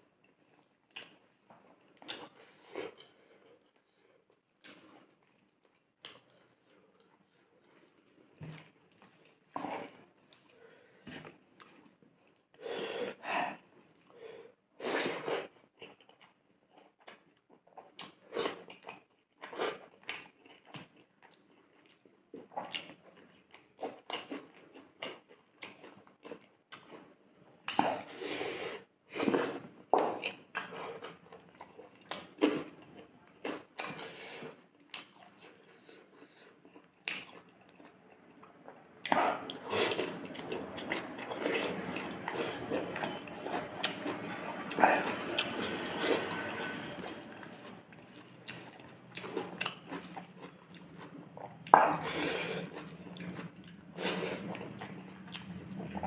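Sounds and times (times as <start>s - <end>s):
close chewing and mouth noises: 0.0s - 56.0s.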